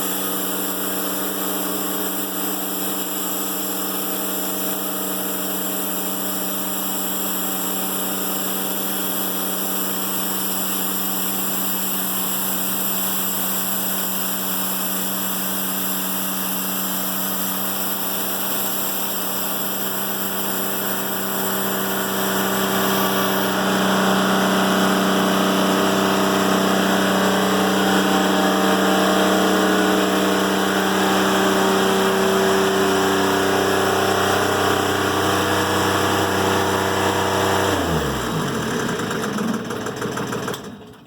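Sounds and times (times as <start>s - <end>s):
band sawmill running: 0.0s - 41.0s
engine winding down: 0.0s - 41.0s.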